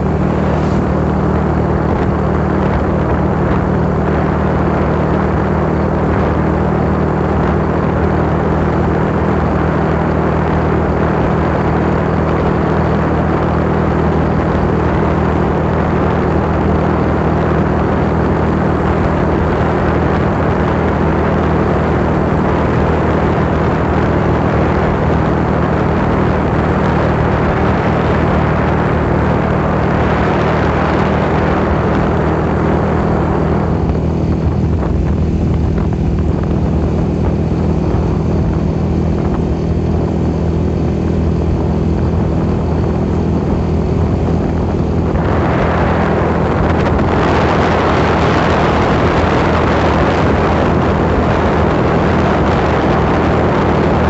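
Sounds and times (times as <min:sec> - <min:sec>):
motorcycle engine humming: 0:00.0 - 0:54.0
wind rushing on microphone: 0:00.0 - 0:54.0.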